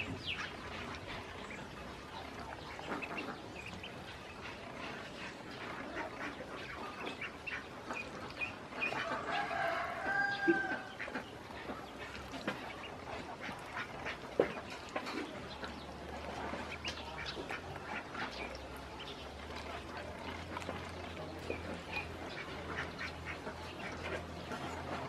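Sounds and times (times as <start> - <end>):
ducklings peeping: 0.0 - 25.0.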